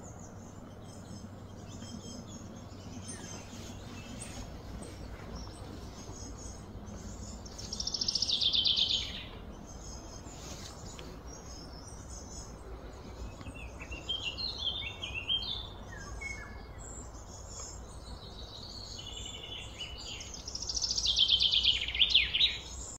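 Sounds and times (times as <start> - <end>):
low background hum: 0.0 - 22.9
songbirds singing: 0.0 - 22.9.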